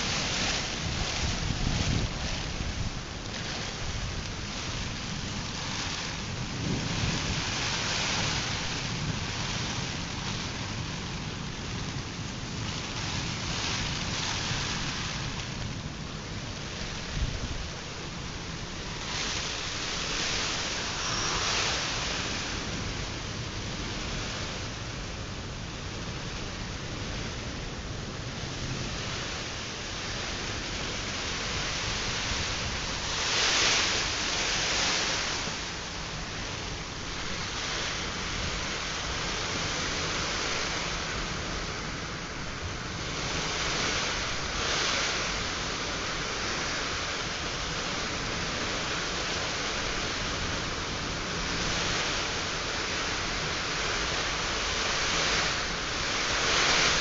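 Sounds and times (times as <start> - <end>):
heavy rain rushing: 0.0 - 57.0.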